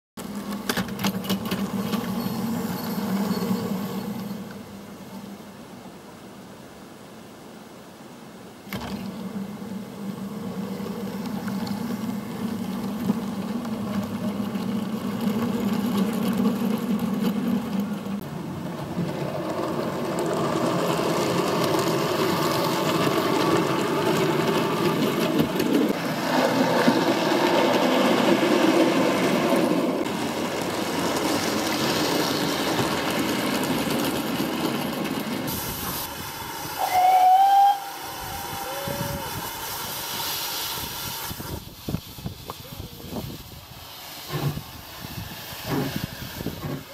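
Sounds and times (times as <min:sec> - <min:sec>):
wheels running on track: 0:00.2 - 0:05.5, 0:08.7 - 0:46.9
model train motor humming: 0:08.7 - 0:46.9.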